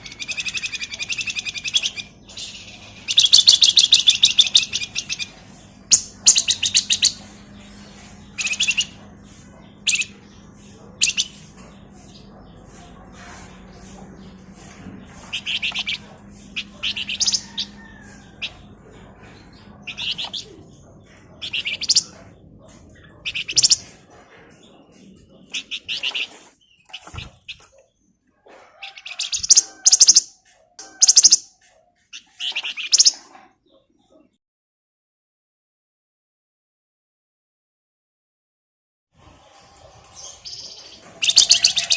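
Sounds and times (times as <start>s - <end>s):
bird chattering trills: 0.0s - 27.9s, 28.7s - 34.3s, 40.2s - 41.9s.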